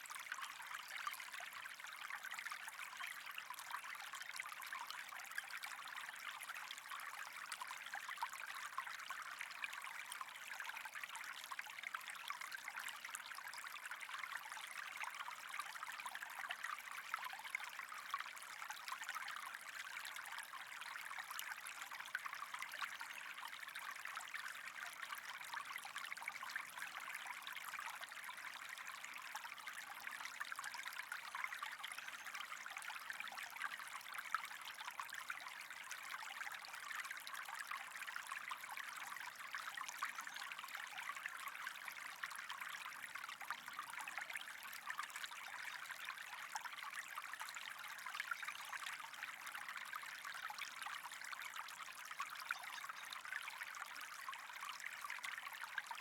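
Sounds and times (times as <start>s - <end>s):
trickling water: 0.0s - 56.0s.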